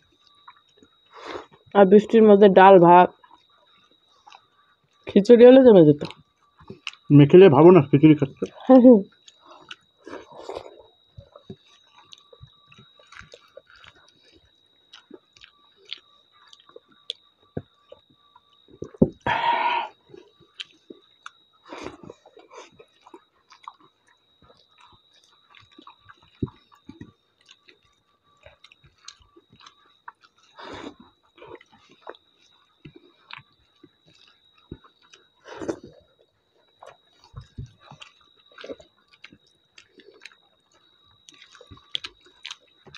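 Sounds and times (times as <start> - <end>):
faint high whine: 0.0 - 42.9
people chewing and eating: 0.0 - 42.9.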